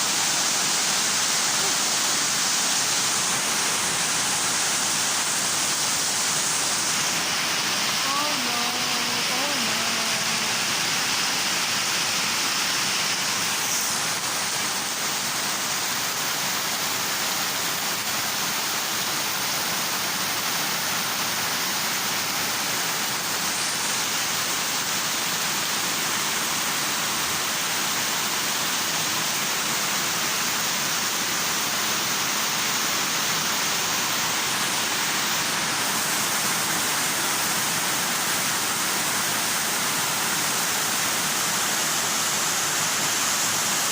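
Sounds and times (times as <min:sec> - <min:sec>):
rain pouring: 0:00.0 - 0:43.9.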